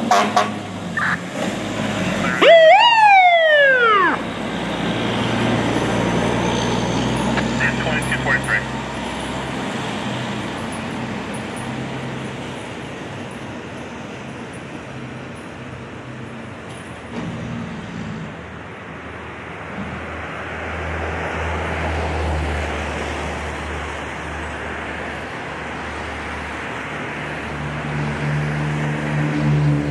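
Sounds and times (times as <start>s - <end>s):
fire engine diesel engine: 0.0s - 29.9s
road and traffic noise: 0.0s - 29.9s.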